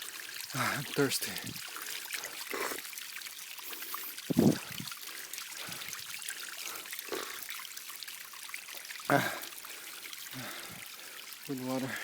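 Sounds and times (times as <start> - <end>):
water pouring and trickling: 0.0 - 12.0.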